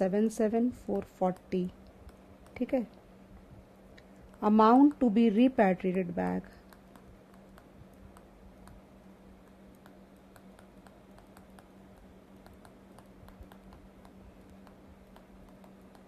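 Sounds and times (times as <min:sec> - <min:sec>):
low steady hum: 0:00.0 - 0:16.0
stylus tapping on pen tablet: 0:00.9 - 0:02.8, 0:04.3 - 0:08.8, 0:09.4 - 0:16.0.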